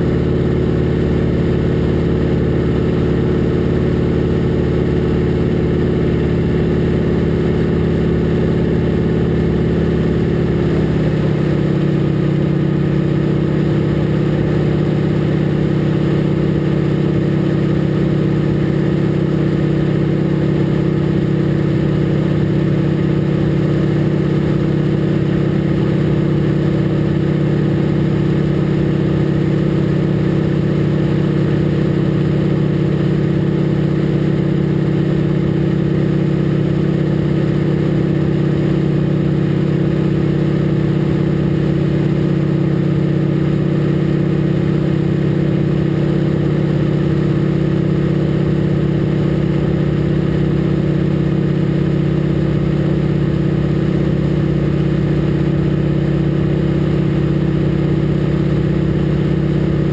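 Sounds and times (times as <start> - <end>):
radial engine and propeller running: 0.0 - 59.9.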